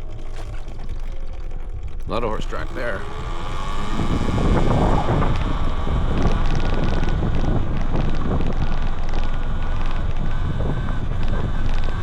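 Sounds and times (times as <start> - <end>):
small ticks: 0.0 - 12.0
wind buffeting microphone: 0.0 - 12.0.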